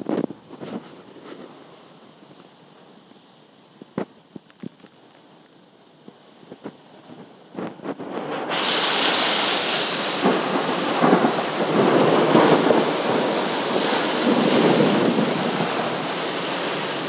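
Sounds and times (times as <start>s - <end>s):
wind: 0.0s - 17.0s
heavy rain on a car: 0.3s - 17.0s.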